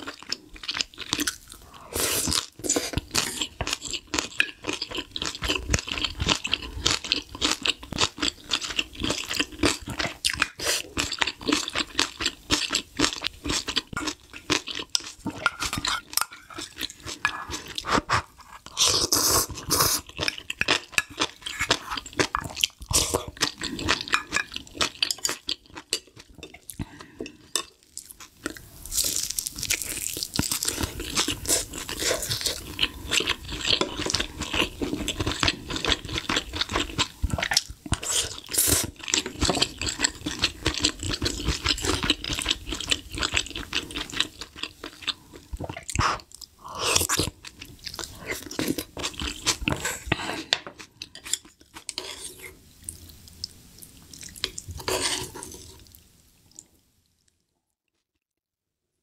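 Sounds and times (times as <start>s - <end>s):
chewing and slurping soup: 0.0s - 56.7s.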